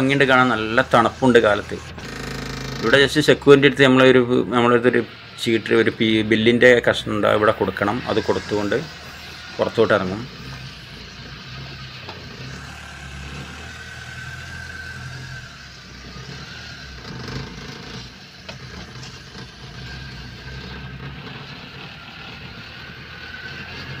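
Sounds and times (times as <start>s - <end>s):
faint whine: 0.0s - 24.0s.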